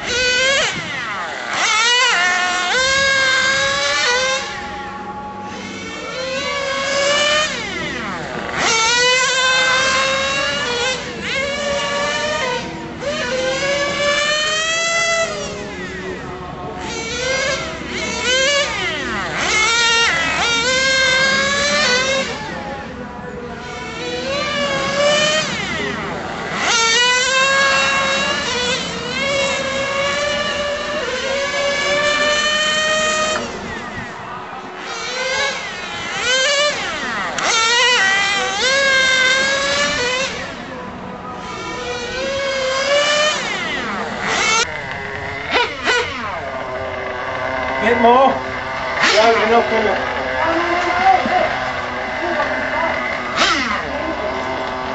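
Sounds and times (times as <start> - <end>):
small nitro engine revving: 0.0 - 54.9.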